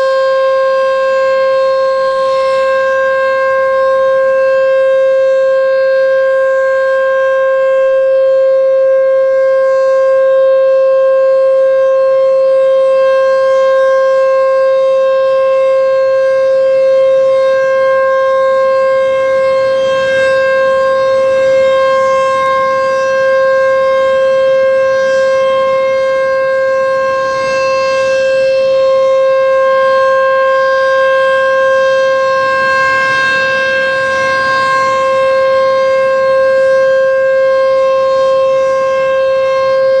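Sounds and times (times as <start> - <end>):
siren steady tone: 0.0 - 40.0.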